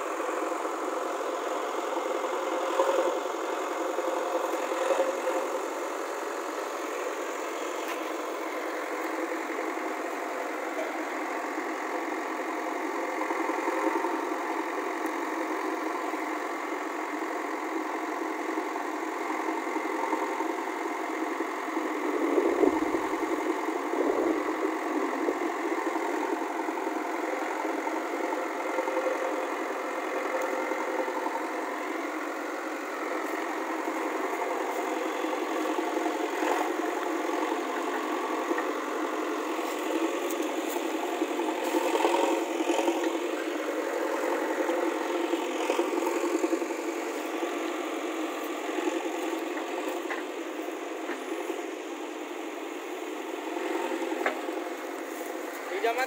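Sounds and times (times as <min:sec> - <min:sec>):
backhoe diesel engine digging: 0:00.0 - 0:56.0.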